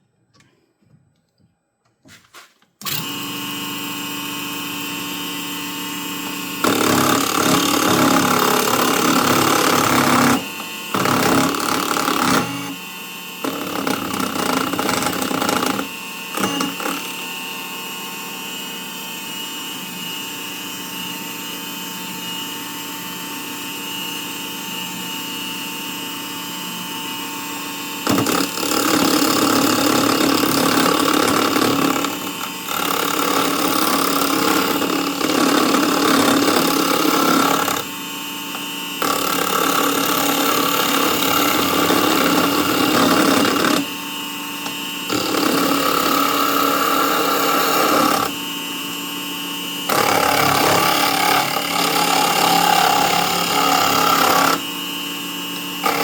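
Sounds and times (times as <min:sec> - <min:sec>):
tool cutting spinning wood: 0:02.0 - 0:18.5, 0:26.8 - 0:56.0.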